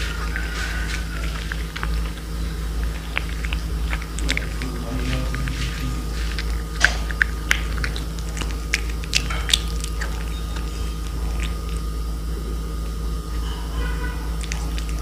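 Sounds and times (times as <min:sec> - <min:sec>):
cat chewing fish: 0:00.0 - 0:15.0.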